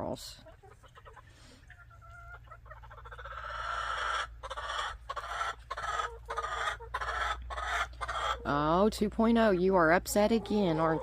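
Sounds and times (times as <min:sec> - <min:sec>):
hen squawking and clucking: 0:00.4 - 0:08.8, 0:09.4 - 0:11.0.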